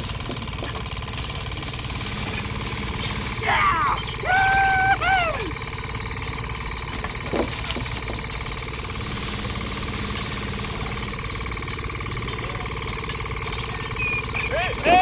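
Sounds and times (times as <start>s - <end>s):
small electric motor buzzing hum: 0.0s - 15.0s.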